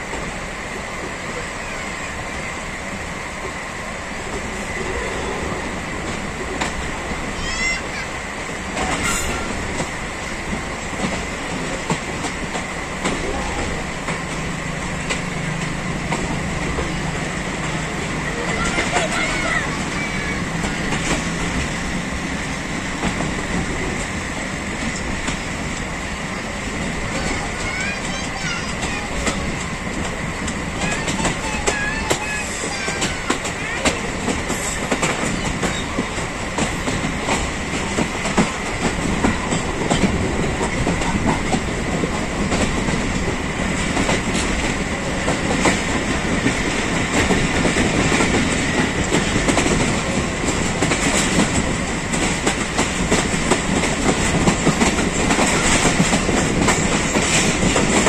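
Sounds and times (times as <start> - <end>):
train wheels rumbling and rattling: 0.0 - 58.0
clickety-clack over rail joints: 4.2 - 58.0.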